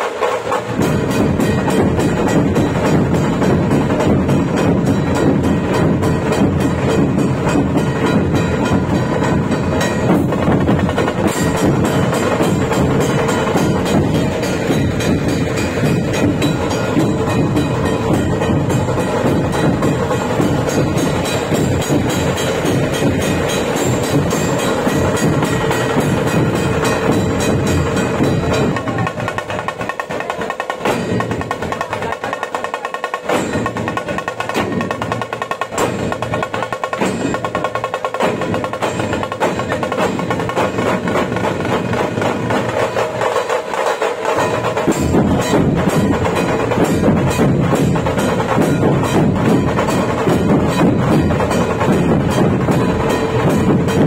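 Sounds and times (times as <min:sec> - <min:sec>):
deep barrel drum beats: 0:00.0 - 0:54.0.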